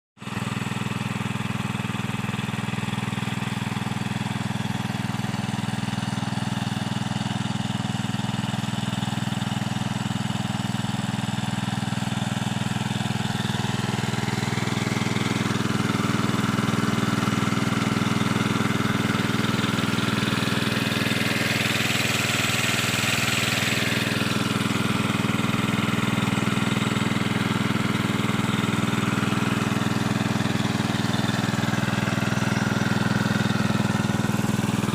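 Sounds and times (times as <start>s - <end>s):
water pump engine running: 0.2s - 34.9s.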